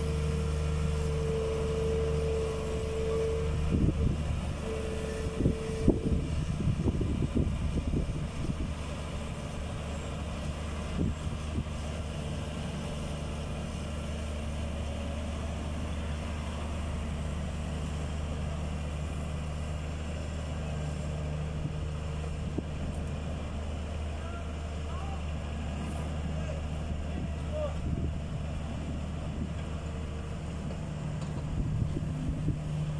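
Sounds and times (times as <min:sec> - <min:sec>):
backhoe diesel engine running: 0:00.0 - 0:32.9.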